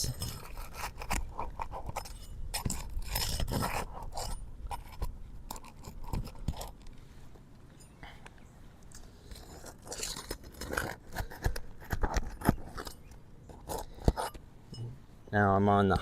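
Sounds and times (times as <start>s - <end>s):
shingles crackling and scraping: 0.0s - 7.7s, 8.9s - 14.4s.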